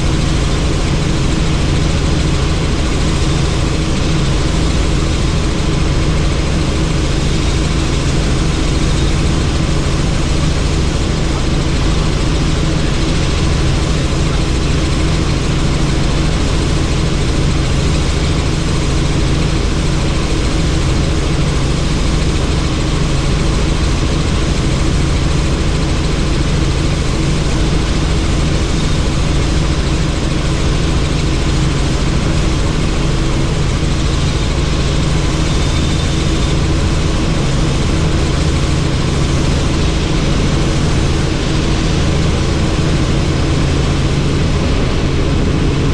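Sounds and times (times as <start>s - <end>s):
helicopter engine and rotor drone: 0.0s - 45.9s.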